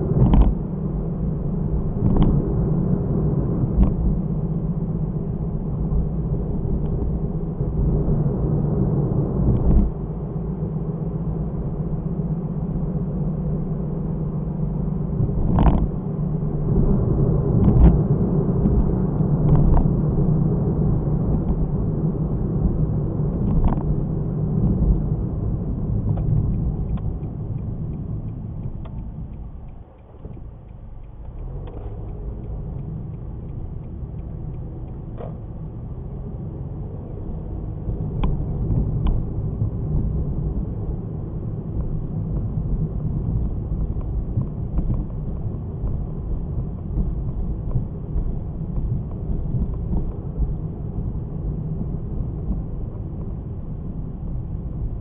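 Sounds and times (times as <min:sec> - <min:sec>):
car engine and road hum: 0:00.0 - 0:55.0.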